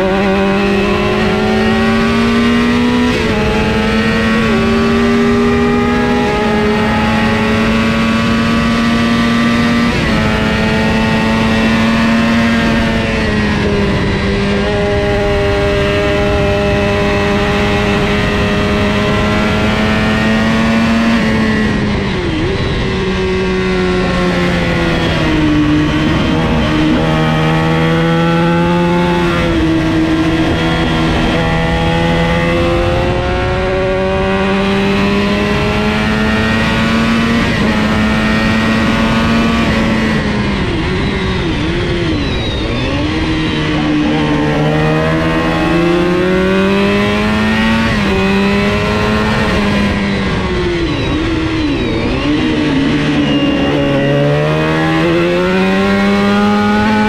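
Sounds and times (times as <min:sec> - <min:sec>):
motorcycle engine at full throttle: 0:00.0 - 0:57.0.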